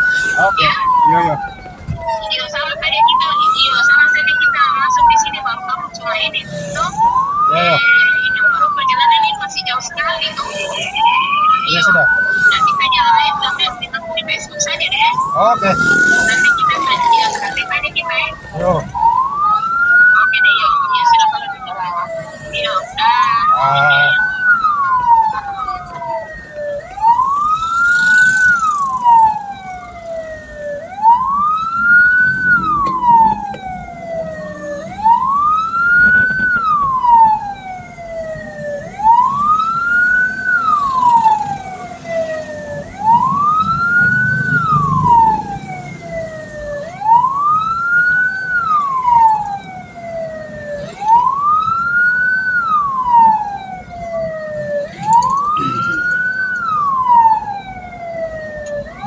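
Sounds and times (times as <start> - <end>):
electronic siren wailing: 0.0 - 59.0
vehicle rumbling on road: 0.0 - 59.0.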